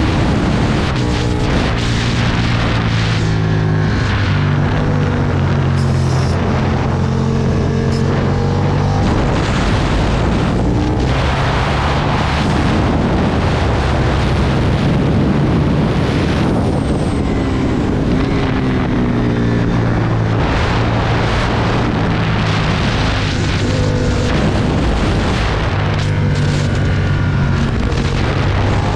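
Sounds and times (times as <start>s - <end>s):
motorcycle engine running hard: 0.0s - 28.9s
wind noise: 0.0s - 28.9s.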